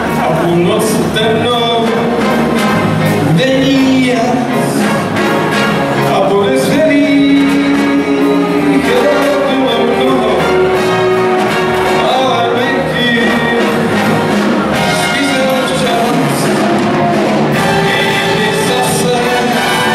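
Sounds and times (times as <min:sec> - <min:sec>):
big band playing: 0:00.0 - 0:19.9.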